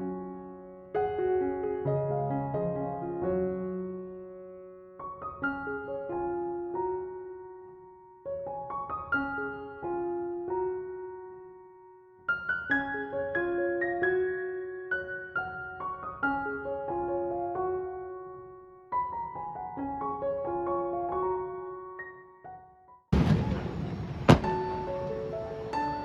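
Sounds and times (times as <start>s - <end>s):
gentle solo piano: 0.0s - 26.0s.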